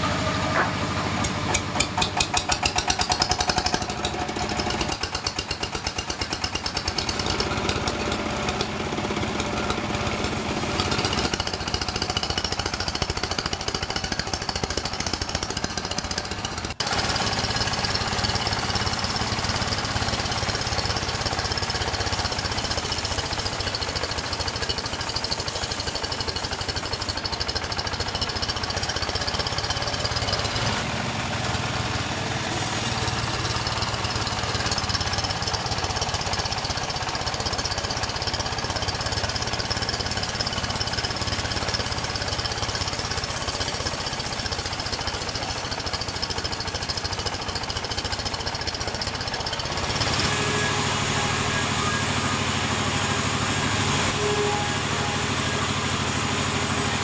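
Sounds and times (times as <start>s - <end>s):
sawmill machinery pulsing: 0.0s - 57.0s.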